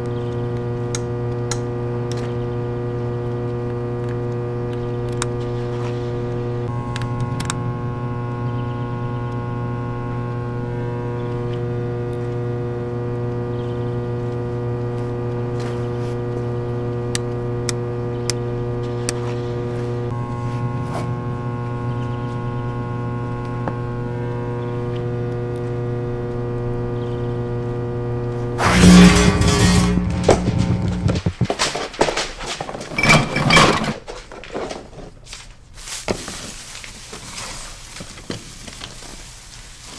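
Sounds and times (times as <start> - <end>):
guitar amplifier mains hum: 0.0 - 32.2.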